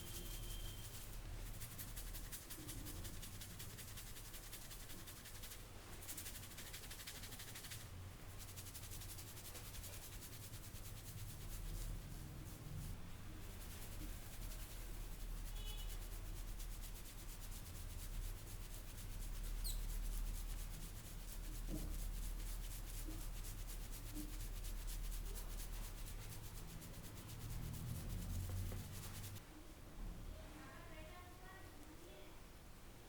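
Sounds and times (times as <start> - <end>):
hands scratching through hair: 0.0 - 29.4.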